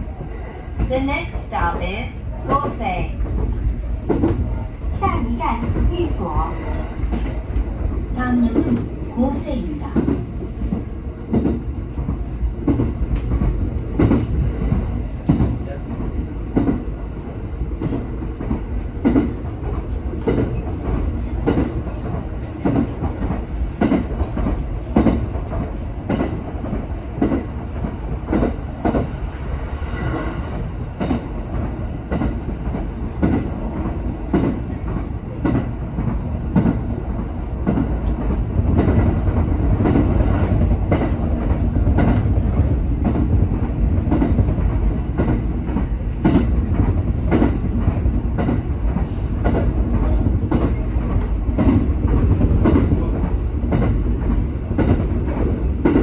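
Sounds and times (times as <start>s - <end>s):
train rumble inside car: 0.0s - 56.0s.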